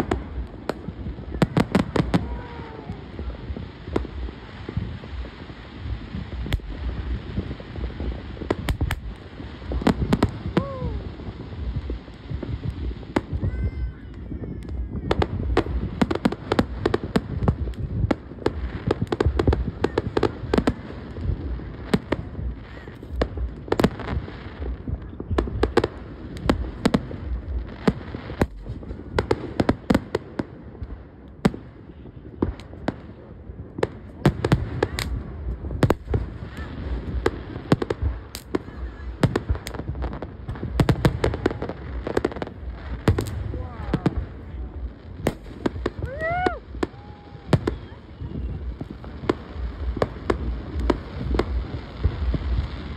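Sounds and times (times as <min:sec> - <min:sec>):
fireworks bangs and crackles: 0:00.0 - 0:52.9
low rumble of booms: 0:00.0 - 0:52.9.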